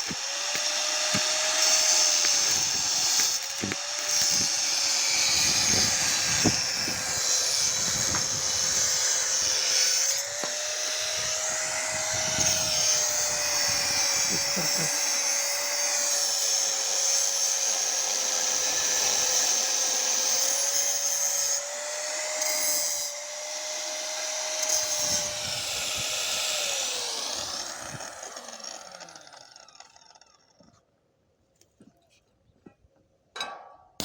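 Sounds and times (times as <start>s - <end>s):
electric power tool whining: 0.0s - 30.8s.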